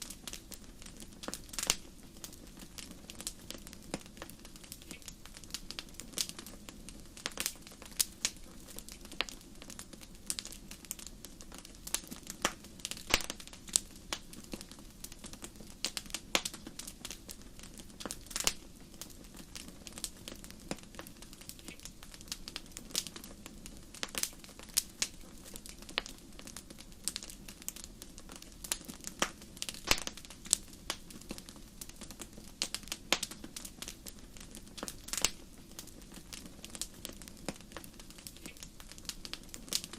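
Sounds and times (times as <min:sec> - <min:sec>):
steady hiss of burning: 0:00.0 - 0:39.9
wood fire crackling: 0:00.0 - 0:39.9.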